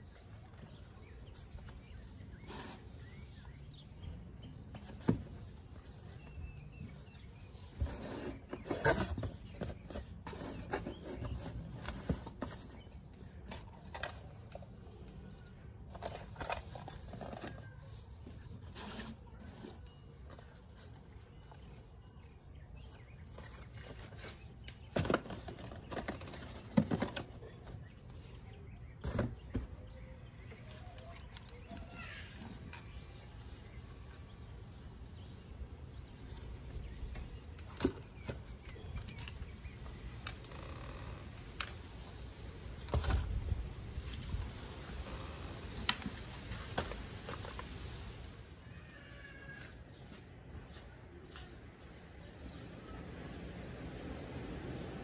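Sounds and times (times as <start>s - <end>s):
low steady background noise: 0.0s - 55.0s.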